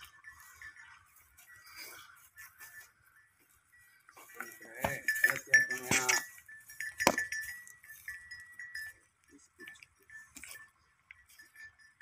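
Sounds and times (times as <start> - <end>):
high clinking tone: 0.0 - 12.0.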